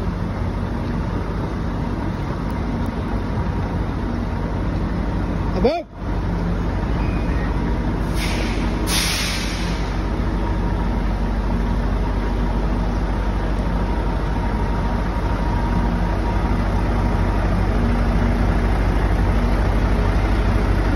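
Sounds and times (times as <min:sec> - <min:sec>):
truck diesel engine running: 0:00.0 - 0:20.9.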